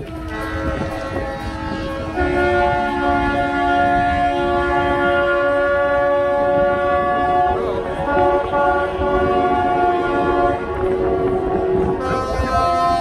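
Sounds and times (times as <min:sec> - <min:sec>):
boat horns blasting: 0:00.0 - 0:13.0.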